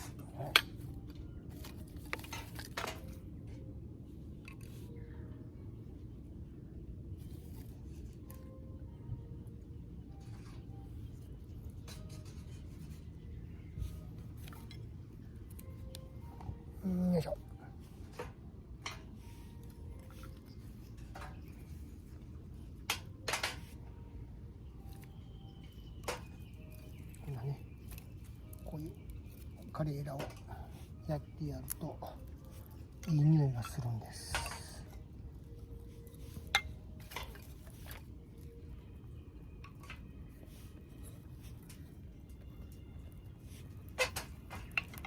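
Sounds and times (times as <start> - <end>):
low steady background noise: 0.0 - 45.0.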